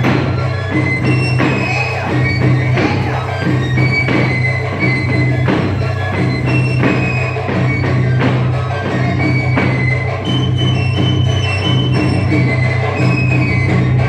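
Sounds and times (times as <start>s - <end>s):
drum beat: 0.0s - 14.0s
folk dance music: 0.0s - 14.0s.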